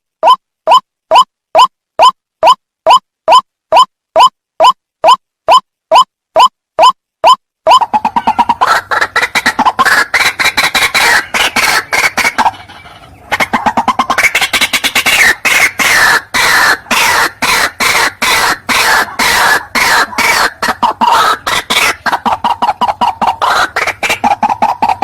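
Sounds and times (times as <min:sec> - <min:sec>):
waterhen clucking calls: 0:00.2 - 0:25.0.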